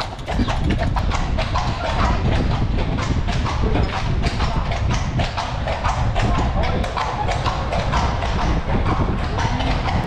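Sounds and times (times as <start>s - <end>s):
carriage low rumble: 0.0s - 10.0s
horse hooves clip-clopping: 0.0s - 10.0s.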